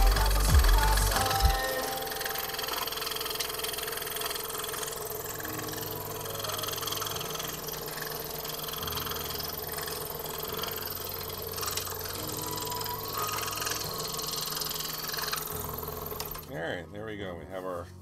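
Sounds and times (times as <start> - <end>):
scroll saw cutting wood: 0.1 - 16.5.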